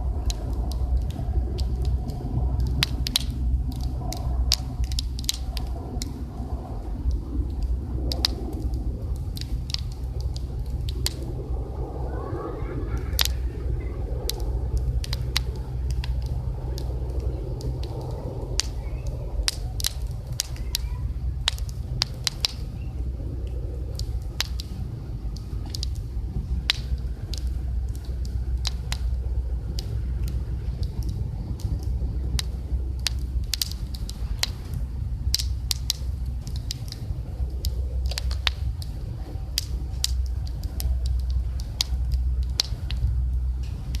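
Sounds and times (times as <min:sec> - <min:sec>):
campfire crackling and popping: 0:00.0 - 0:44.0
steady low rumble: 0:00.0 - 0:44.0.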